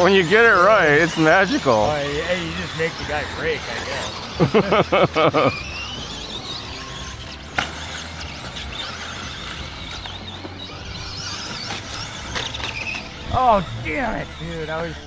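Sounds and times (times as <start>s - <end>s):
electric motor whines: 0.0s - 15.0s.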